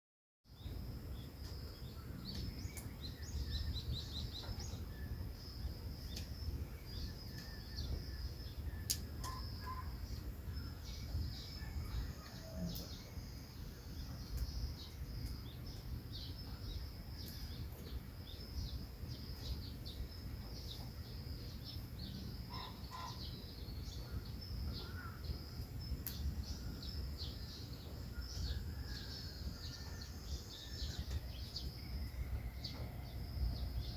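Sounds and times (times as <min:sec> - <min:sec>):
small birds chirping: 0:00.5 - 0:33.9.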